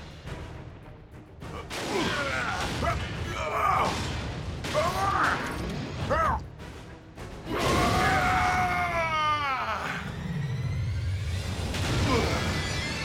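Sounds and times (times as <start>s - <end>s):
dramatic music score: 0.0s - 13.0s.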